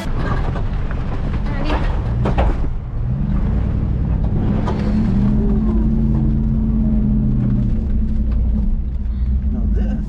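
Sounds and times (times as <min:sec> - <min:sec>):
car engine under load: 0:00.0 - 0:10.0.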